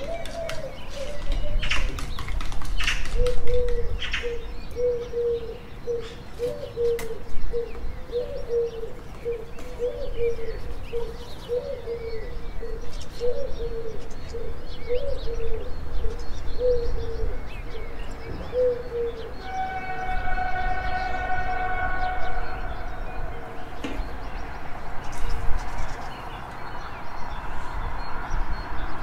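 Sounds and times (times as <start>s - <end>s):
low cooing bird notes: 0.0s - 2.3s, 3.0s - 26.8s.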